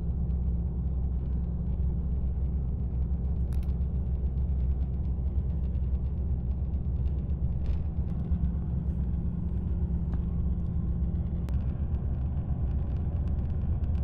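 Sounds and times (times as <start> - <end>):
bus engine hum and road noise: 0.0 - 14.0.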